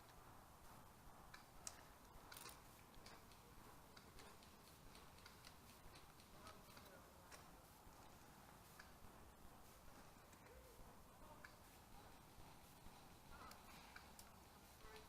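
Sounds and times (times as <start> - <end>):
faint hiss: 0.0 - 15.0
faint clicks: 1.3 - 9.0, 10.2 - 15.0.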